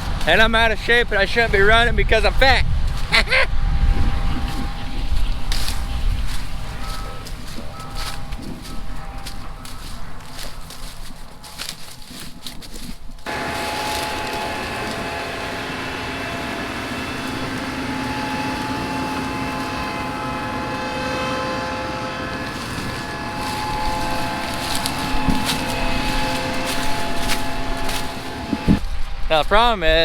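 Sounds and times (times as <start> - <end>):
harvest machine engine whining: 0.0 - 29.2.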